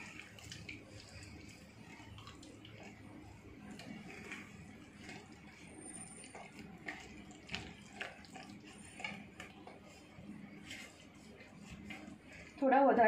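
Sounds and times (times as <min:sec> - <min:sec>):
spatula stirring wet batter: 0:00.0 - 0:13.0.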